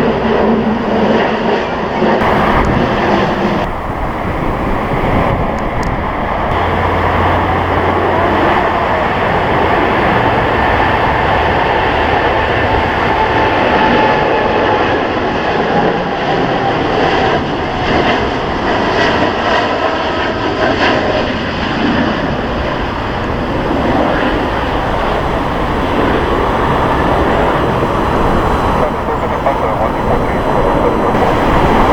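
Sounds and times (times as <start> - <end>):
jet engines whining: 0.0 - 31.9
wind on microphone: 0.0 - 31.9.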